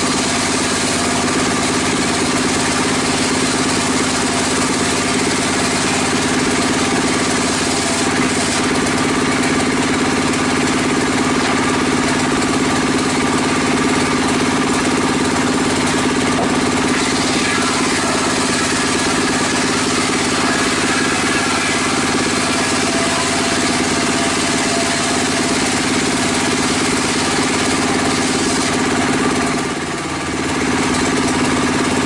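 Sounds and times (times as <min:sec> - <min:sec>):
engine drone: 0:00.0 - 0:32.0.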